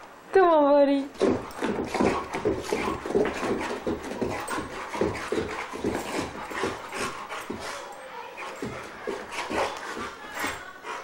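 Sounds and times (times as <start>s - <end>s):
dog panting hard: 1.2s - 11.0s.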